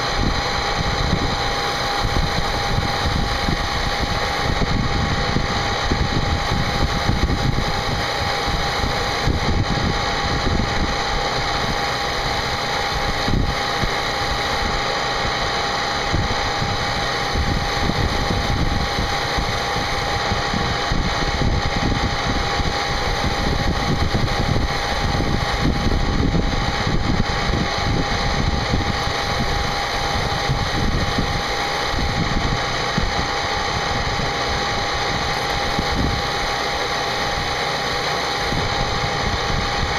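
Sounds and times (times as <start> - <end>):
cnc machine cutting: 0.0 - 39.9.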